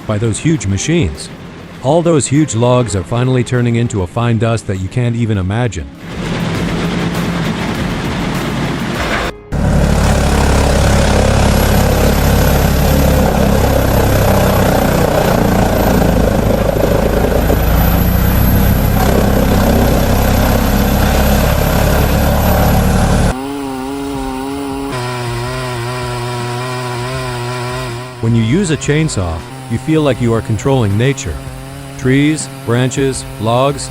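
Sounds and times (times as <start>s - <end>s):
engine with wavering pitch: 5.8s - 33.9s
wood-cutting machinery grinding: 6.0s - 33.9s.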